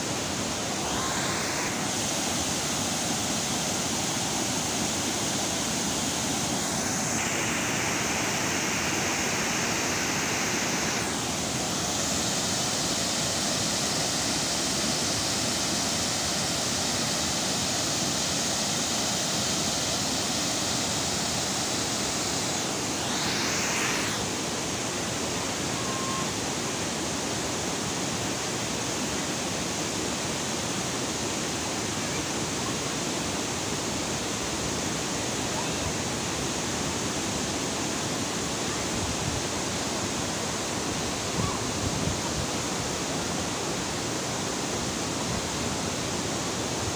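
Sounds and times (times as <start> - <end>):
water rushing over weir: 0.0 - 46.9.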